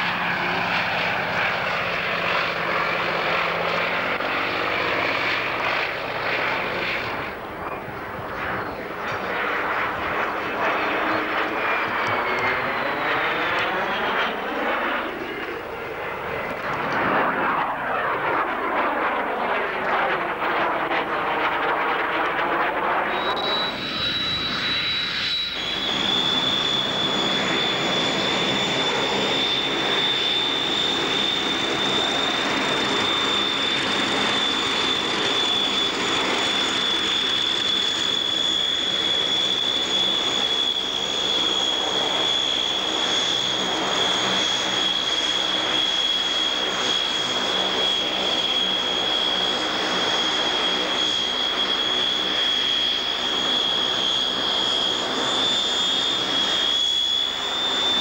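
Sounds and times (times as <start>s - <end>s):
display aircraft passing overhead: 0.0s - 58.0s
jet noise with high whine: 0.0s - 58.0s.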